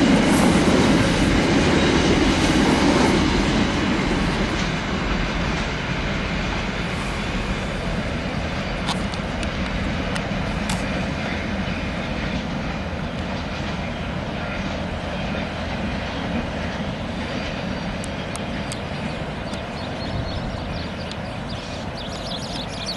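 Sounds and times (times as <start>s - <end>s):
freight train wheels rumbling on rails: 0.0s - 22.9s.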